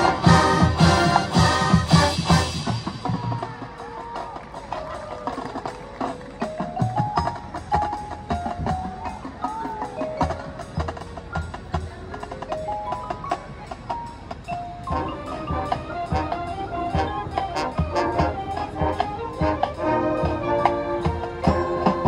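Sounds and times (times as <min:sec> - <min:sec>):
marching band playing: 0:00.0 - 0:22.0
marimba and glockenspiel melody: 0:03.8 - 0:22.0.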